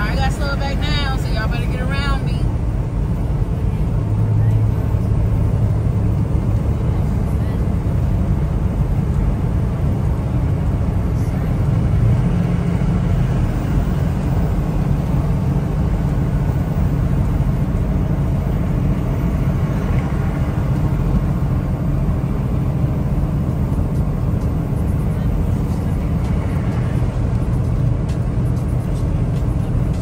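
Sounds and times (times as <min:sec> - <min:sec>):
diesel truck engine drone: 0:00.0 - 0:30.0
tyre and road noise: 0:00.0 - 0:30.0.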